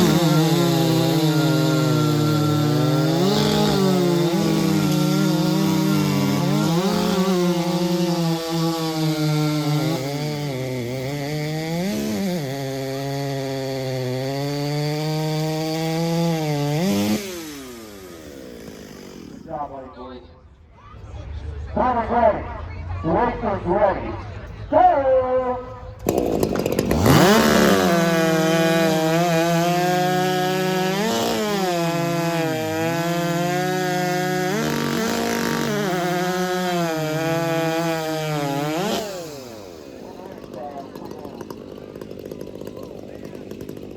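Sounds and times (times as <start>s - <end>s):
chainsaw cutting through log: 0.0s - 19.7s, 26.0s - 43.9s.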